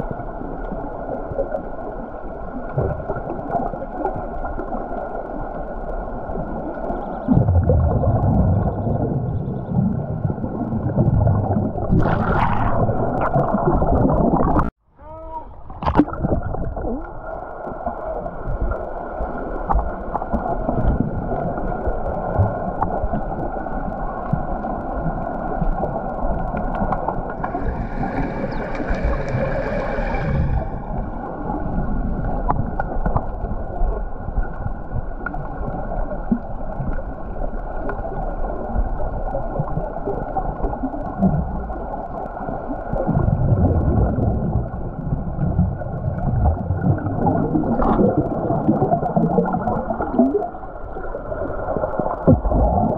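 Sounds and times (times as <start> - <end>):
underwater bubbling and gurgling: 0.0 - 14.8, 15.5 - 52.9.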